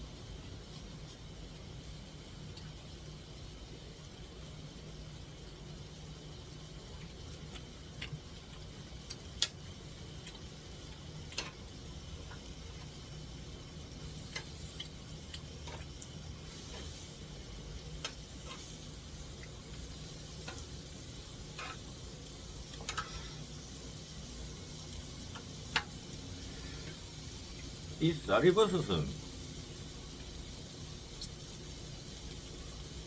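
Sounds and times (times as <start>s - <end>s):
air conditioner hum: 0.0s - 33.0s.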